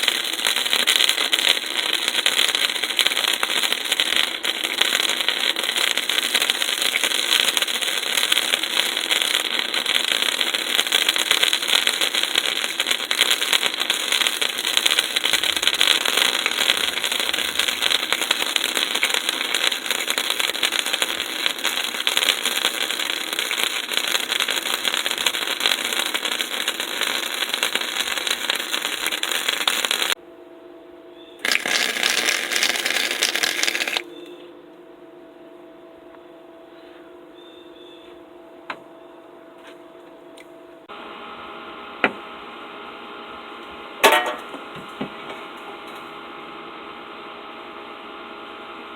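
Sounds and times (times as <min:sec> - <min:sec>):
welding arc crackling: 0:00.0 - 0:30.2, 0:31.4 - 0:34.1, 0:40.9 - 0:48.9.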